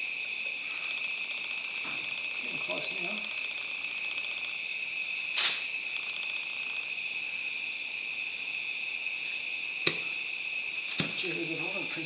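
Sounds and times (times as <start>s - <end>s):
insects chirping rapidly: 0.0s - 12.0s
insects droning: 0.0s - 12.0s.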